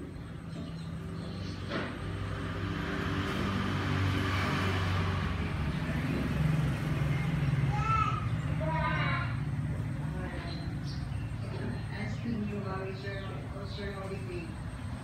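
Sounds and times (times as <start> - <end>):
engine running low hum: 0.0 - 15.0.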